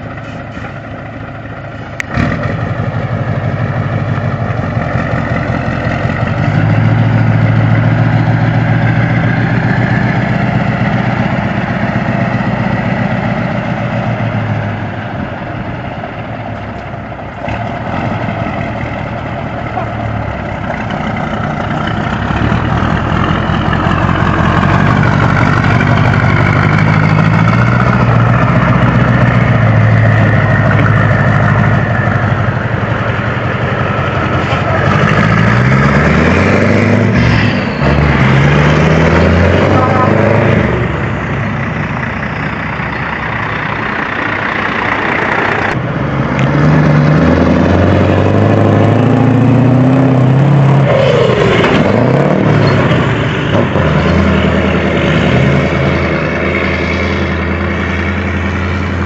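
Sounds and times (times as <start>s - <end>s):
deep diesel engine note: 0.0s - 59.0s.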